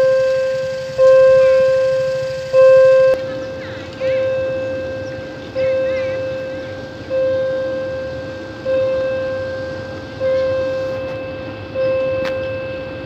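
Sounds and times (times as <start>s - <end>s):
level crossing bell ringing: 0.0s - 13.0s.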